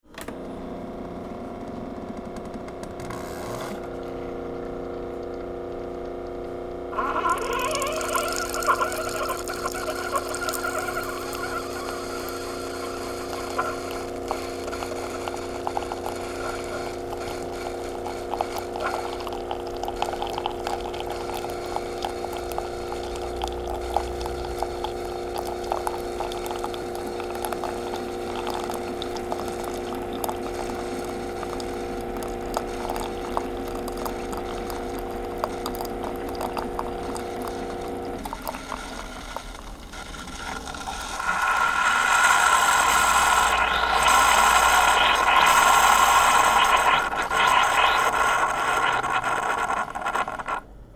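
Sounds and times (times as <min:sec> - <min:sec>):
coffee maker humming and gurgling: 0:00.0 - 0:50.9
hissing sputtering noise: 0:03.2 - 0:50.7.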